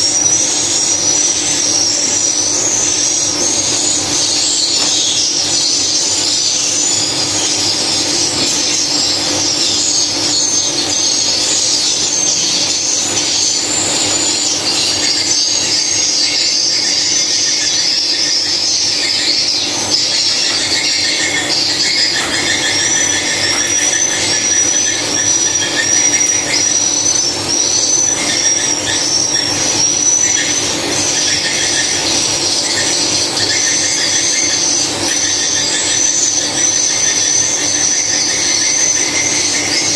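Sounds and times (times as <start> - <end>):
swiftlets twittering: 0.0 - 39.9.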